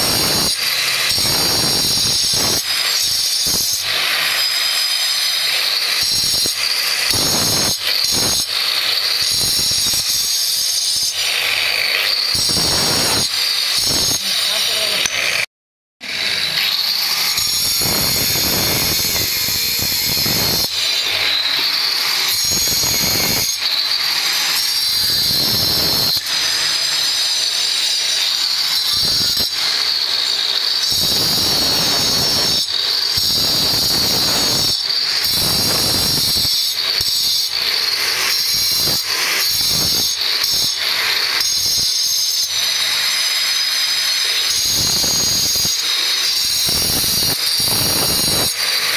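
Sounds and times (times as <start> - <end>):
marble cutter whining: 0.0 - 48.9.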